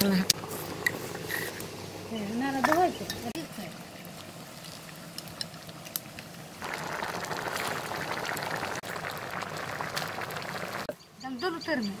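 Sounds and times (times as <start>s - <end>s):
thick stew bubbling in a pot: 0.0s - 10.9s.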